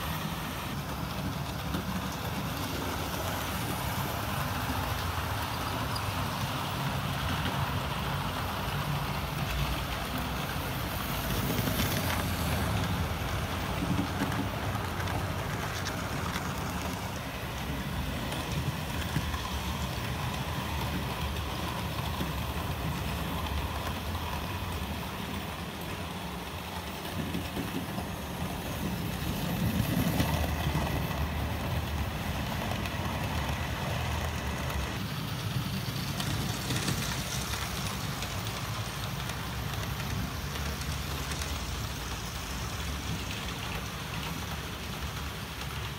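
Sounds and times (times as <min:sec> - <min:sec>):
model train rumbling on track: 0:00.0 - 0:45.9.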